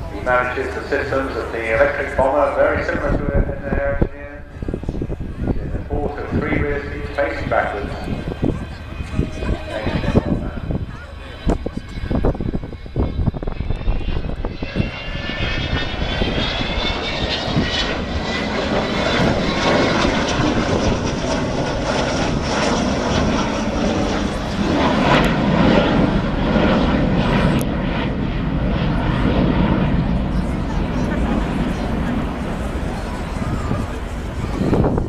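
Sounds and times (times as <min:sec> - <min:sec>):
high jet whine: 0:00.0 - 0:35.0
jet engines rumbling: 0:00.0 - 0:35.0.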